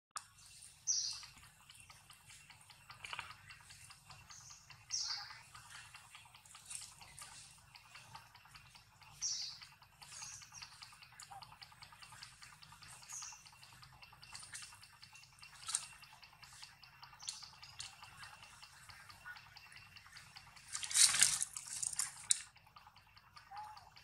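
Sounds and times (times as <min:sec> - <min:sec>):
small clicks: 0:00.2 - 0:24.0
steady high hum: 0:00.2 - 0:24.0.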